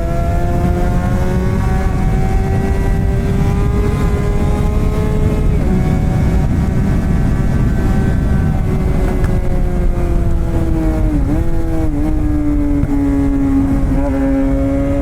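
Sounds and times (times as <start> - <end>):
motorcycle engine at high revs: 0.0 - 15.0
wind noise: 0.0 - 15.0.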